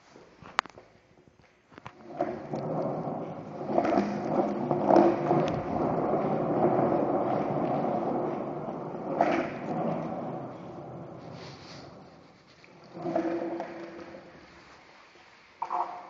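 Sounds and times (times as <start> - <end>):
skateboard wheels rolling on pavement: 1.8 - 16.0.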